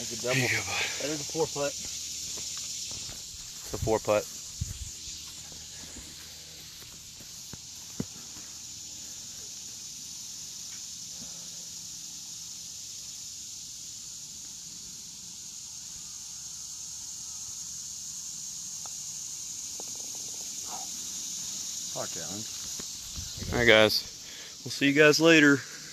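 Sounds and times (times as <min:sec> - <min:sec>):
insects chorus: 0:00.0 - 0:25.9.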